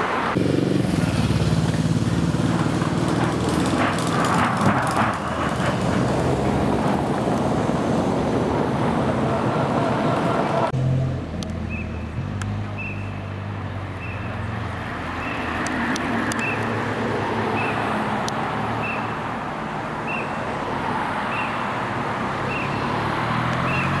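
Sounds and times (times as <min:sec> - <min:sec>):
car engine and tyre rush: 0:00.0 - 0:24.0.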